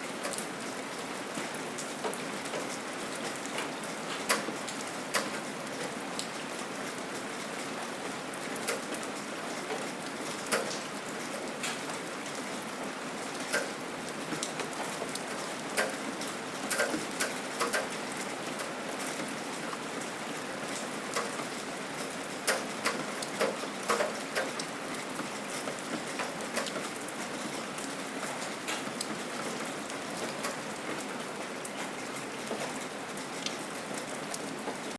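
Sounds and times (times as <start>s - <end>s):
steady gentle rain: 0.0s - 34.9s
raindrops tapping a surface: 0.1s - 34.9s.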